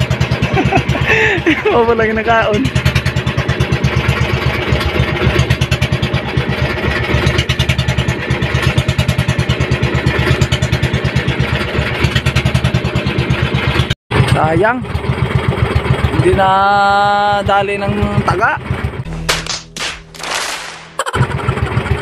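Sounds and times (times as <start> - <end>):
boat engine pulsing: 0.0 - 22.0.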